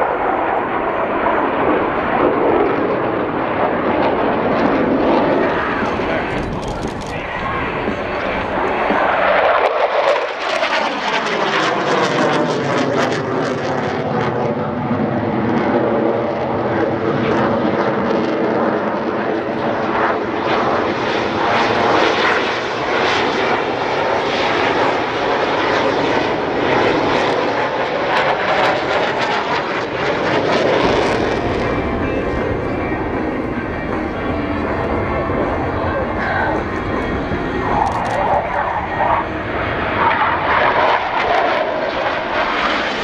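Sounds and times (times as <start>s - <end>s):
jets flying past: 0.0s - 43.0s.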